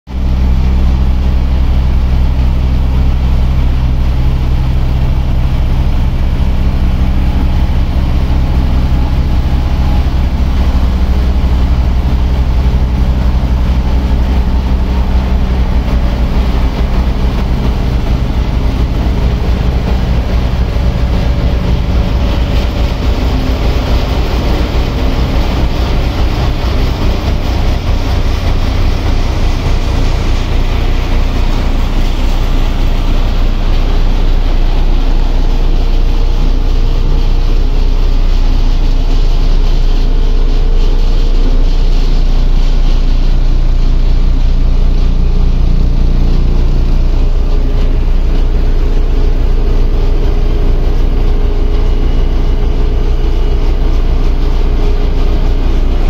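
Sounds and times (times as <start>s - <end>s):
road roller diesel engine droning: 0.1s - 56.0s.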